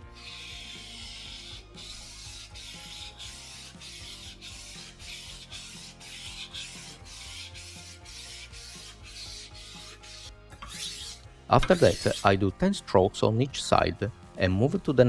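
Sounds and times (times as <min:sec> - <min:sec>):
faint background music: 0:00.0 - 0:15.0
knife scraping on whetstone: 0:00.1 - 0:12.4.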